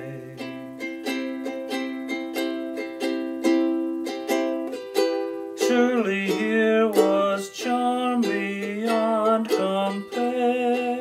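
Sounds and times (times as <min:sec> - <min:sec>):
ukulele playing: 0:00.0 - 0:11.0.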